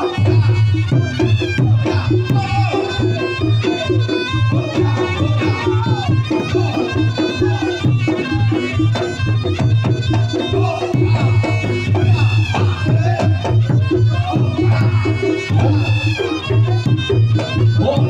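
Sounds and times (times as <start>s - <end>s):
shawm melody: 0.0s - 18.0s.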